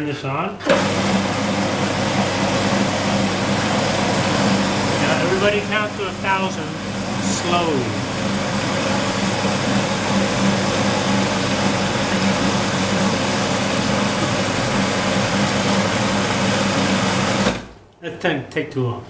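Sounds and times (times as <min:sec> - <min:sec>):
kitchen appliance motor grinding: 0:00.6 - 0:17.7.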